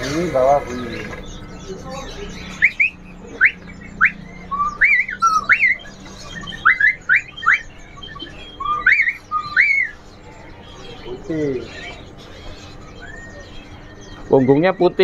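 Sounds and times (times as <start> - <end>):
bird singing whistled notes: 0.0 - 15.0.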